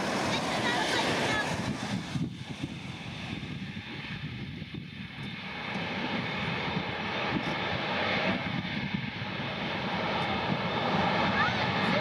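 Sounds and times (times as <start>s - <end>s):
airplane engines running: 0.0s - 12.0s.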